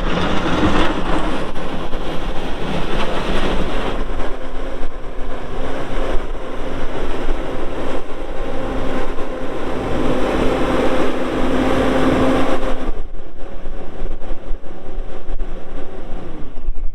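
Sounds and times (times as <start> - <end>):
diesel engine drone: 0.0 - 16.9.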